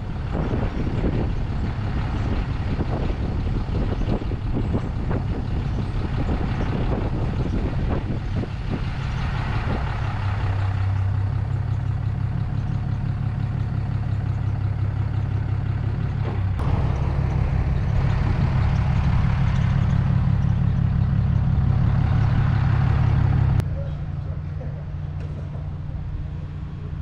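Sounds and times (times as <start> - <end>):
vehicle cabin engine drone: 0.0 - 27.0.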